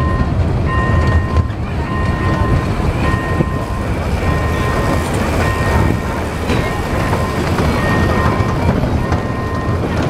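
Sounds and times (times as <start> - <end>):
small train rolling past: 0.0 - 10.0.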